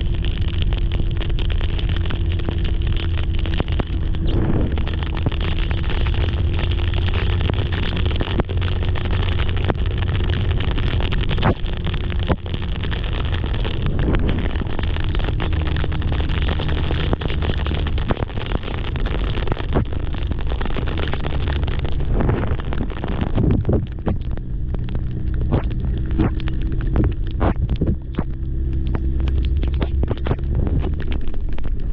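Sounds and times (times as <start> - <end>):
wind noise on microphone: 0.0 - 31.9.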